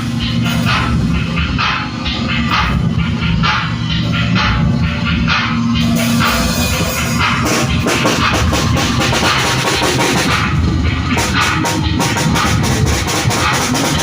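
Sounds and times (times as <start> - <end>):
drum kit hitting rapidly: 0.0 - 14.0
wall of noise: 0.0 - 14.0.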